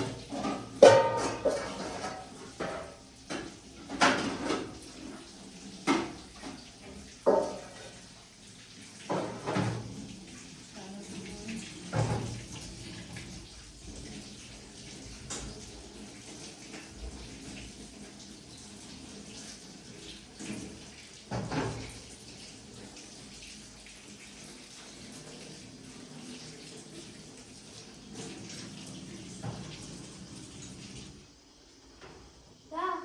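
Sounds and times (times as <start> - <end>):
water running and splashing: 0.0 - 31.4.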